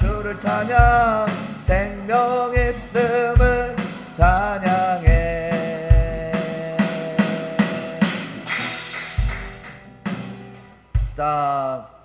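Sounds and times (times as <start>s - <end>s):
electronic drum beat: 0.0s - 11.6s.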